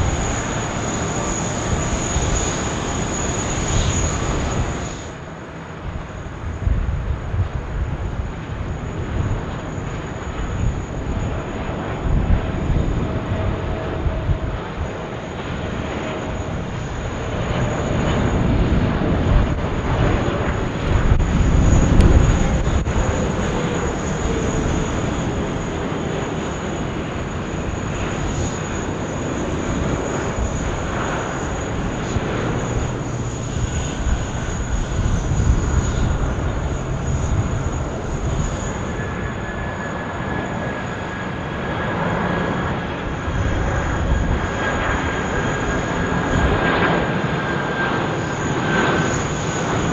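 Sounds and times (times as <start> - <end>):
jet airliner engines rumbling: 0.0 - 49.9.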